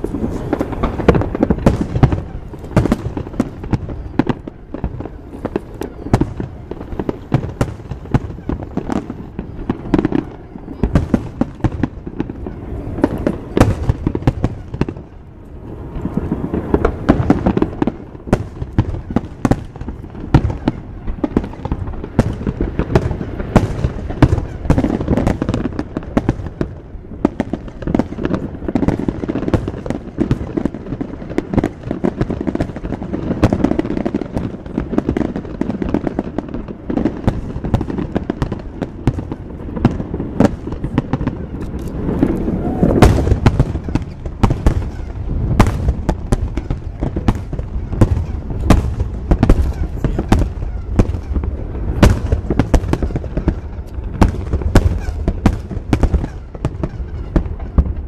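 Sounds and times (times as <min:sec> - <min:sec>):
firework bangs and crackles: 0:00.0 - 0:58.0.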